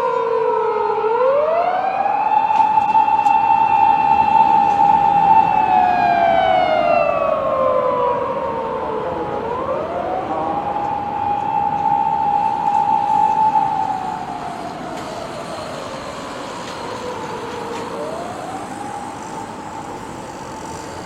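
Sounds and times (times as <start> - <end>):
police car siren wailing: 0.0 - 21.0.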